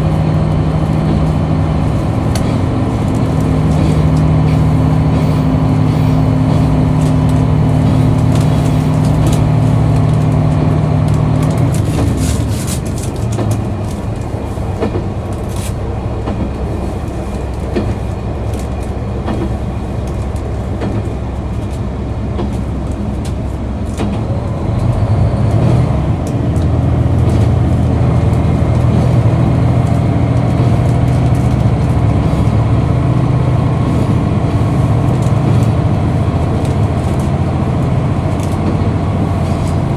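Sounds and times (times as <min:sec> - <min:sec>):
diesel railcar engine: 0:00.0 - 0:39.9
train wheel clicks: 0:00.0 - 0:39.9.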